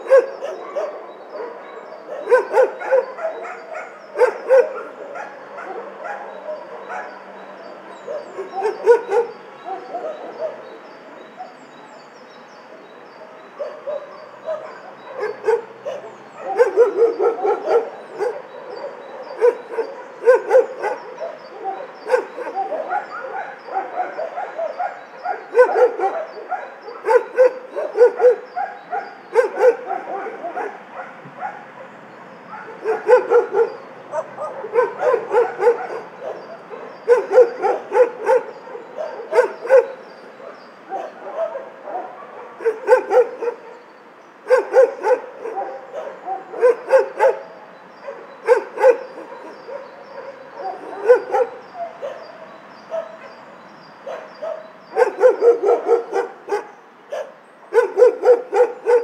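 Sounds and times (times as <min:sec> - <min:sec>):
many dogs barking: 0:00.0 - 0:59.0.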